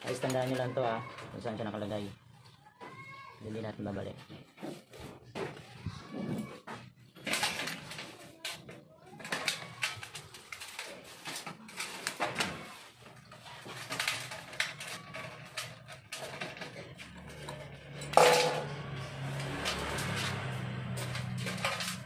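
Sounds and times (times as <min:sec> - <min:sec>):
metal parts and tools clinking: 0:00.0 - 0:02.4, 0:06.2 - 0:22.0.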